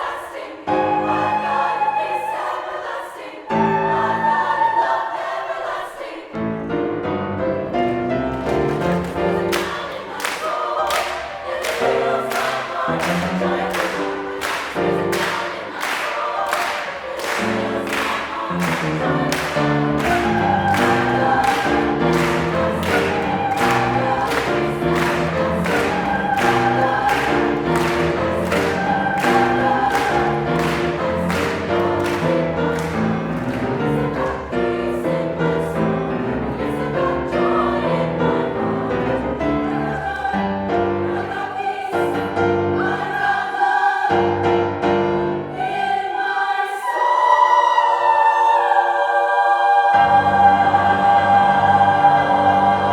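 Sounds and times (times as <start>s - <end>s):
mixed choir singing: 0.0s - 52.9s.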